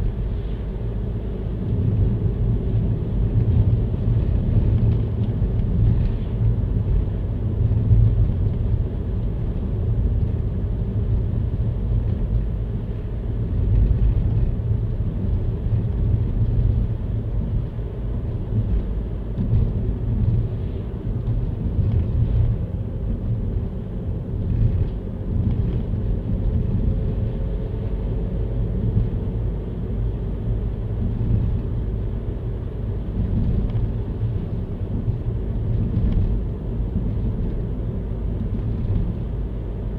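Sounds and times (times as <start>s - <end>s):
low rumble: 0.0s - 39.9s.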